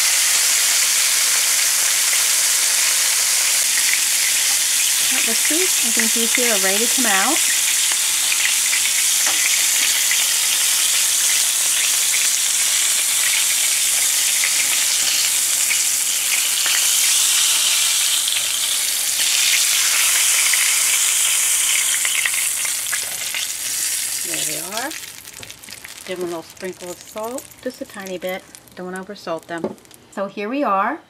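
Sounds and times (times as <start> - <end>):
oysters sizzling in hot oil: 0.0 - 30.1
crackles and pops of frying: 0.0 - 30.2.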